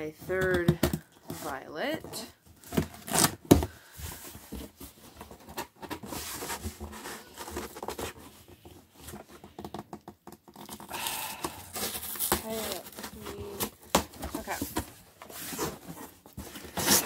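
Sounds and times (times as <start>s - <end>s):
cardboard scratching and rustling: 1.3s - 17.0s.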